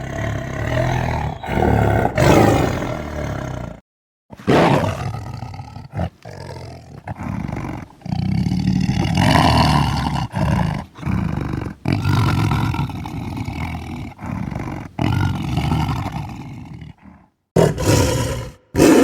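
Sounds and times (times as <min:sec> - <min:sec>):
tiger roaring and growling: 0:00.0 - 0:19.0.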